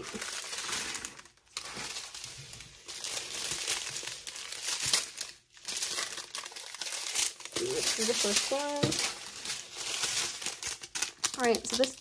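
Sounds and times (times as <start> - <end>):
small plastic bags crinkling: 0.0 - 12.0.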